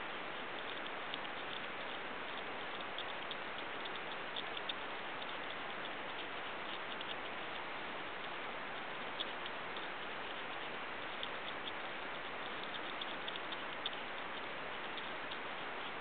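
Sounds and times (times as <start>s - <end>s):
porcupine gnawing corn: 0.0s - 16.0s
steady background hiss: 0.0s - 16.0s.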